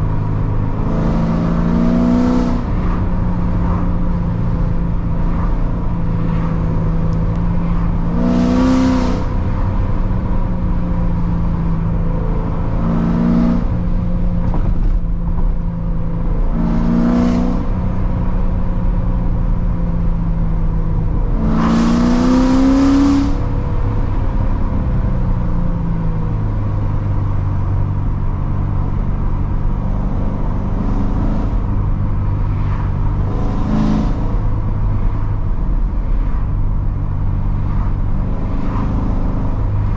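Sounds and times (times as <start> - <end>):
car engine droning and revving: 0.0 - 39.9.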